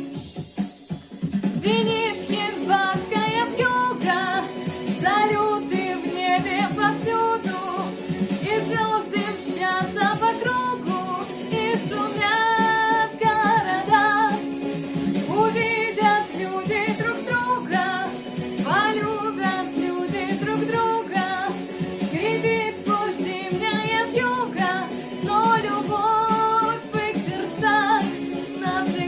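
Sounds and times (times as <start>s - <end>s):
pop song with female vocals: 1.4s - 29.0s.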